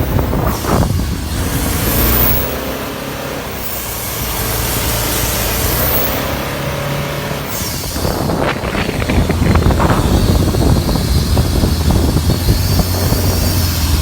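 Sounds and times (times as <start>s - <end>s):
diesel boat engine running: 0.0s - 14.0s.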